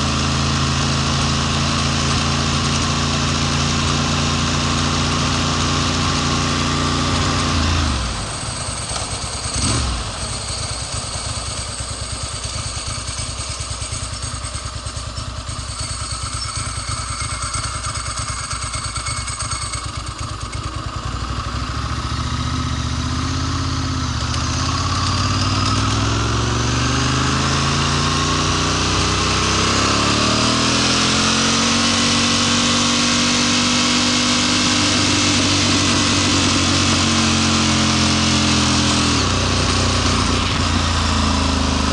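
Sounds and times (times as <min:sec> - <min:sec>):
wind and road noise: 0:00.0 - 0:15.7, 0:20.8 - 0:41.9
motorcycle engine: 0:00.0 - 0:41.9.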